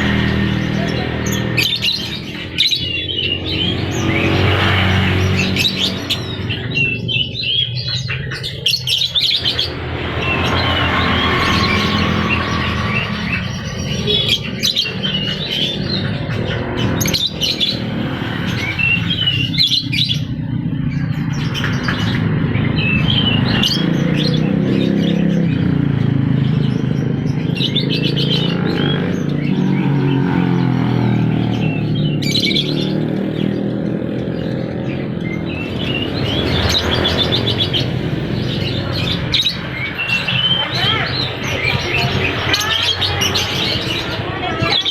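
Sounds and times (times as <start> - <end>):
lovebirds chirping: 0.0 - 44.9.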